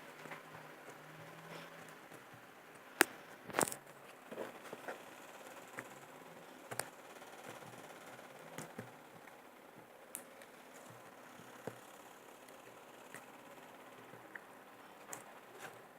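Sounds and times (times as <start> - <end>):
faint steady hum: 0.0 - 15.9.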